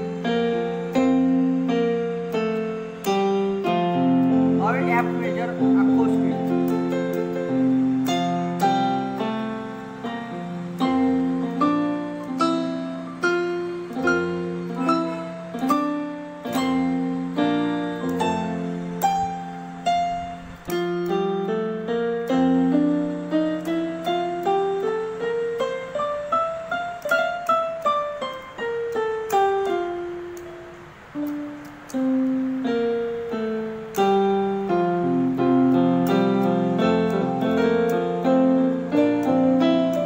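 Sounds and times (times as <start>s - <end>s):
electronic keyboard piano scale: 0.0s - 40.0s.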